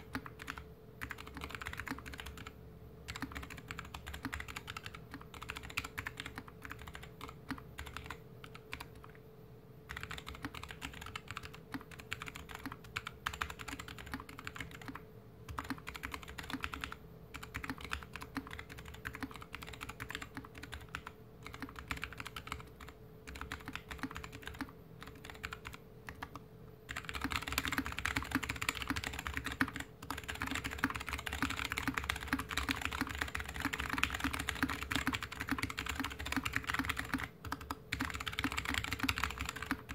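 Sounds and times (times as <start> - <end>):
typing on mechanical keyboard: 0.0 - 9.2, 9.9 - 39.9.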